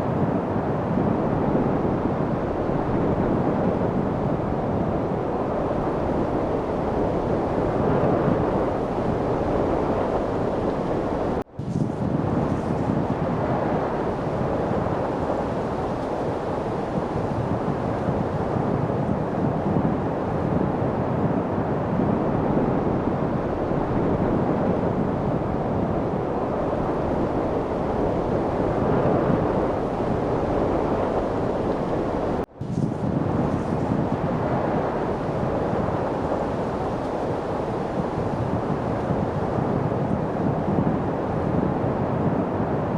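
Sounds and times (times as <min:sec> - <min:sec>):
steady wind rushing: 0:00.0 - 0:42.9.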